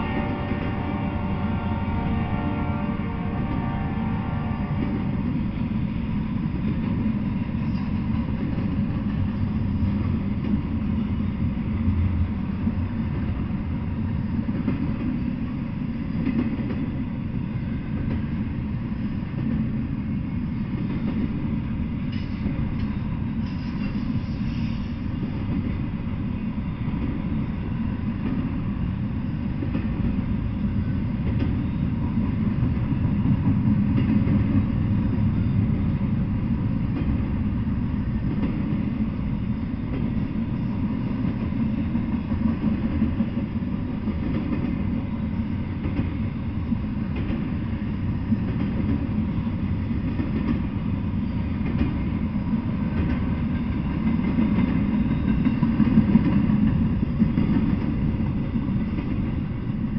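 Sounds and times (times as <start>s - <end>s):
train wheels rolling on track: 0.0s - 59.9s.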